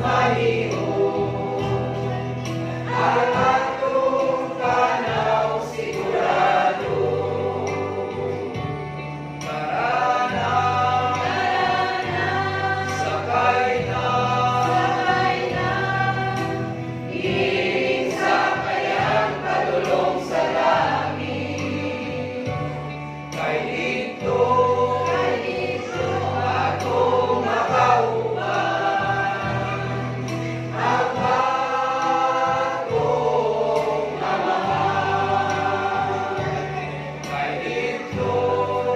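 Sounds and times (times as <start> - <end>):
choir singing gospel song: 0.0 - 38.9.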